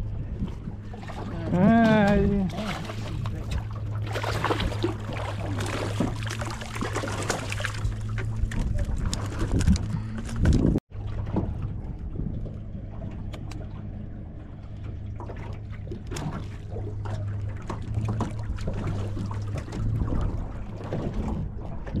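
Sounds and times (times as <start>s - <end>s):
low motor hum: 0.0s - 22.0s
water sloshing against boat hull: 0.0s - 22.0s.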